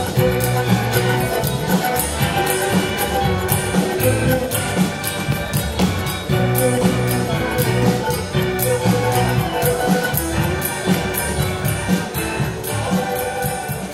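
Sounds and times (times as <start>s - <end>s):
dance band playing: 0.0s - 13.9s.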